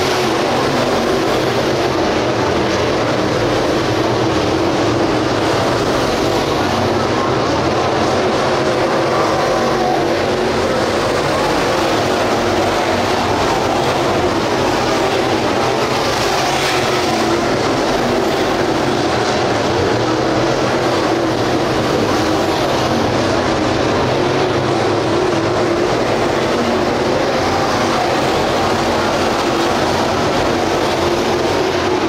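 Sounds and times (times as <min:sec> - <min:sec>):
race car engines droning: 0:00.0 - 0:32.0.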